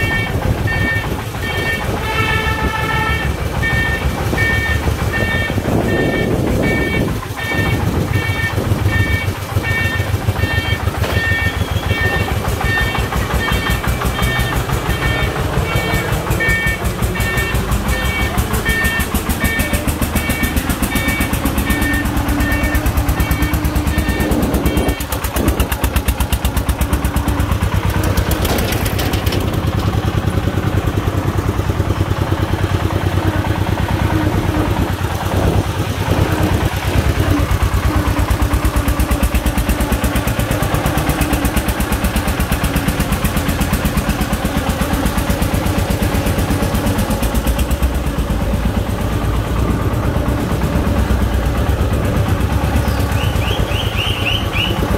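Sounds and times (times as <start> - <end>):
diesel engine chugging: 0.0 - 54.9.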